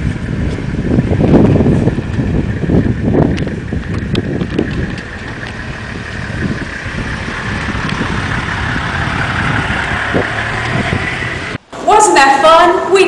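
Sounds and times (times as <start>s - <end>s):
vehicle engine idling: 0.0s - 11.7s.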